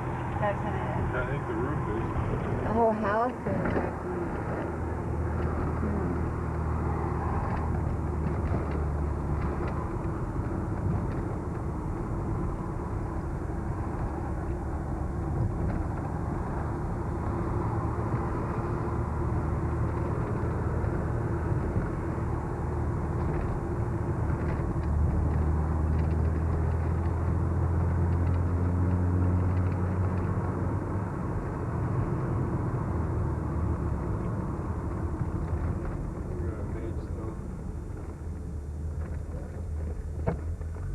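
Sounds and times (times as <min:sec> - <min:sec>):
car engine drone inside cabin: 0:00.0 - 0:40.9
tyre and road noise: 0:00.0 - 0:40.9.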